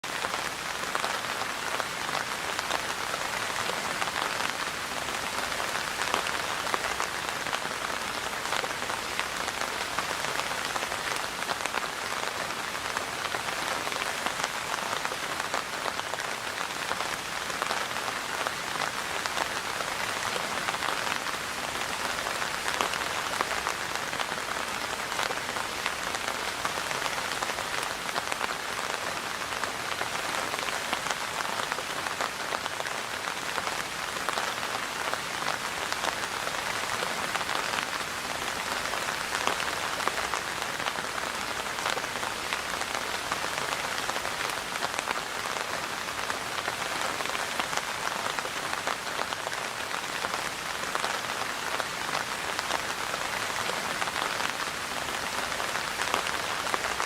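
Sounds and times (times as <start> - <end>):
rain pattering on surfaces: 0.0 - 57.0.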